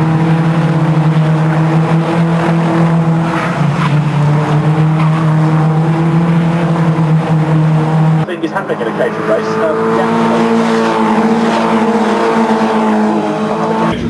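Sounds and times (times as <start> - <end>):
racing car engine at high revs: 0.0 - 14.0.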